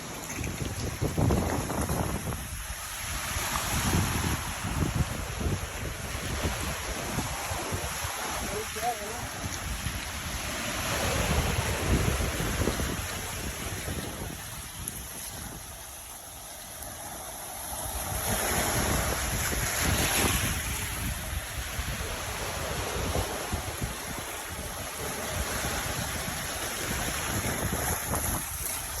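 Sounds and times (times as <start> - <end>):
wind buffeting microphone: 0.0 - 16.0, 17.6 - 29.0
ocean surf washing in: 0.0 - 29.0.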